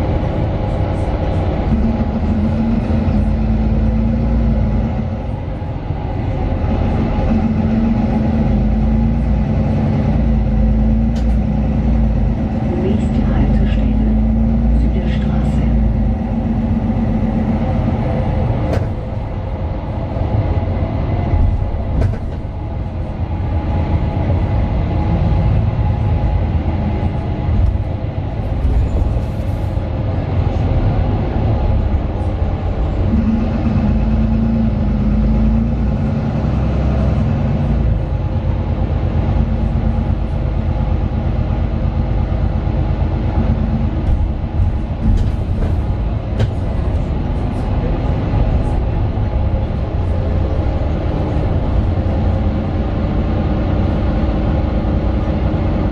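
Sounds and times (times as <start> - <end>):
bus diesel engine running: 0.0 - 55.9
rumble of bus body and road: 0.0 - 55.9.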